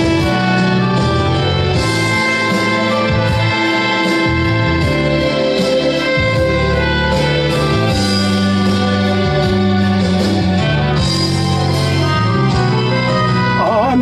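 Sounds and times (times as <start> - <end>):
instrumental ballad backing track: 0.0 - 14.0.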